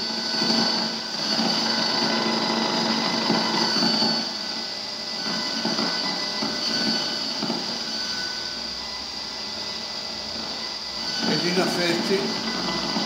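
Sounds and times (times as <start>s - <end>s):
steady whining tones: 0.0s - 13.0s.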